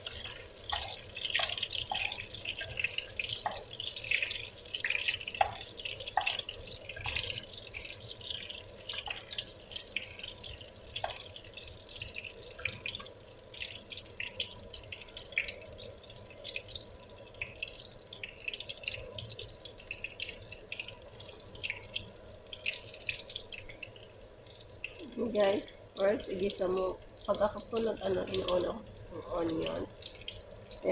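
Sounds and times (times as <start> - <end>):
onion sizzling in oil: 0.0 - 30.9.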